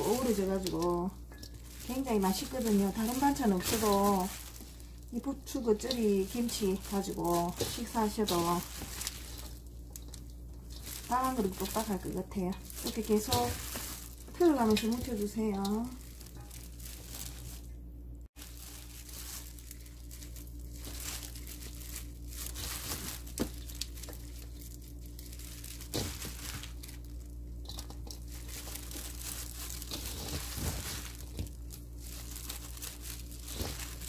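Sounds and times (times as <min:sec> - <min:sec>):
plastic gloves crinkling: 0:00.0 - 0:34.0
wet leaves squishing: 0:00.0 - 0:34.0.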